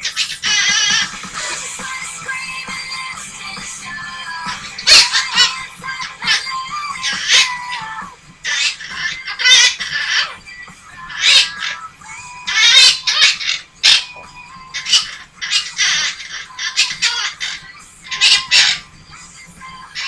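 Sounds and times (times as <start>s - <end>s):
music playing: 0.0s - 20.0s
parrot squawking: 0.0s - 20.0s.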